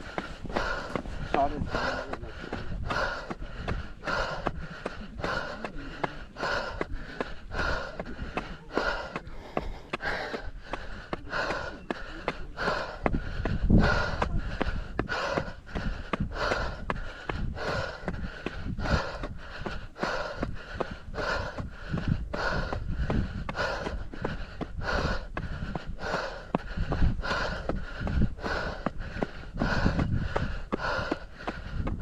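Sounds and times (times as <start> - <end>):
footsteps crunching: 0.0 - 32.0
runner breathing hard: 0.0 - 32.0
wind rumble on microphone: 0.0 - 32.0.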